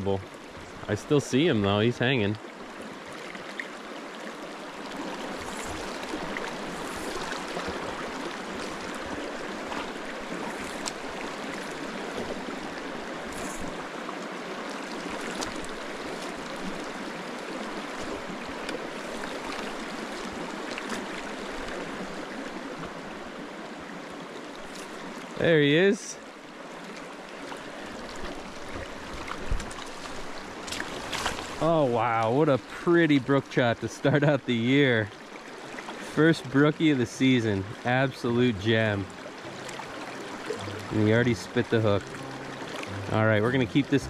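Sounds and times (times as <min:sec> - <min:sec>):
creek flowing over rocks: 0:00.0 - 0:44.0.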